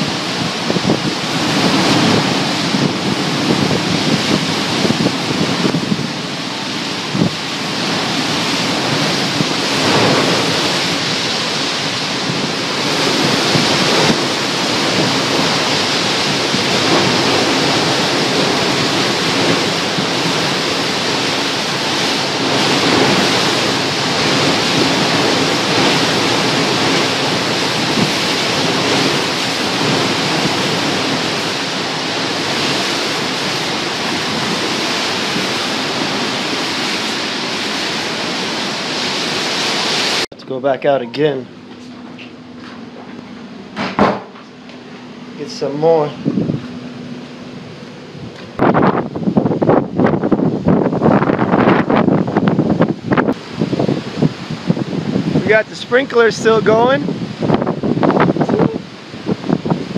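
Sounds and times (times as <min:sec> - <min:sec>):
heavy rain: 0:00.0 - 0:41.4, 0:42.4 - 0:59.9
storm wind: 0:00.0 - 0:59.9.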